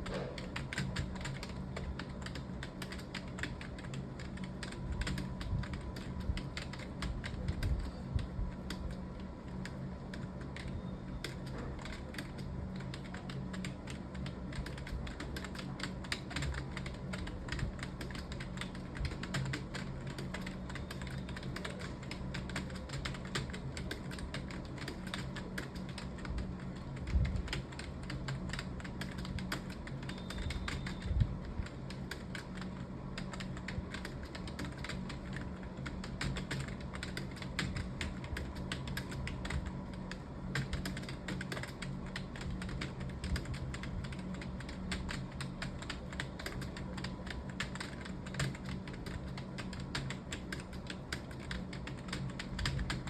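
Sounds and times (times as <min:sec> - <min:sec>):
keyboard typing clicks: 0:00.0 - 0:53.0
steady low hum: 0:00.0 - 0:53.0.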